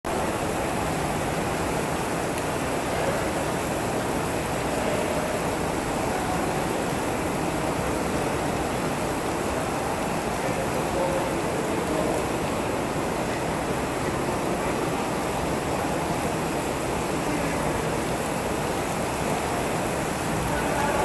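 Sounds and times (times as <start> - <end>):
artificial rain pouring on floor: 0.1 - 21.0.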